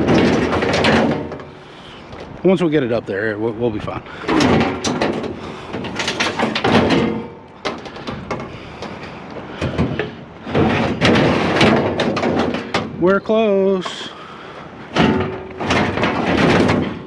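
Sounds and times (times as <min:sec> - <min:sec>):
sheet metal scraping and clanging: 0:00.0 - 0:01.9, 0:04.2 - 0:14.2, 0:14.8 - 0:17.0.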